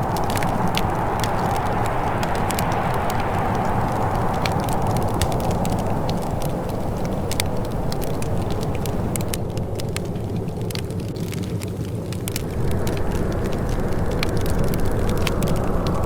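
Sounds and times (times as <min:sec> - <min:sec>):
steady low rush: 0:00.0 - 0:09.3, 0:12.3 - 0:16.0
sharp pops and snaps: 0:00.0 - 0:16.0
wood fire crackling: 0:00.0 - 0:16.0.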